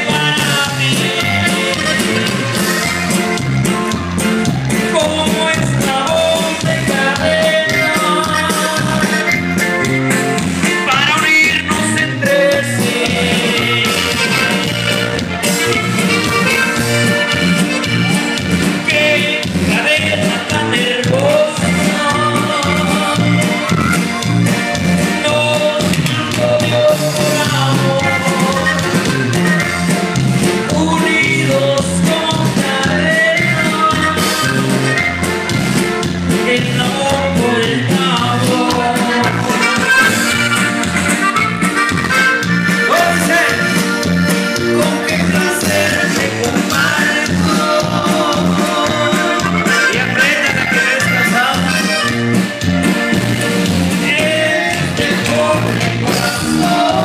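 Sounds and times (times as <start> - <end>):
bouncing bass line: 0.0 - 57.0
button accordion melody: 0.0 - 57.0
guitar strumming: 0.0 - 57.0.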